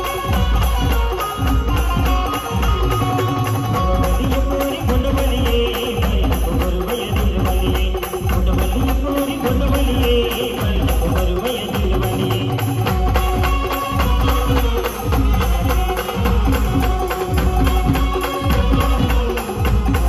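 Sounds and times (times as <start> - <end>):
loud band music over speakers: 0.0 - 20.0.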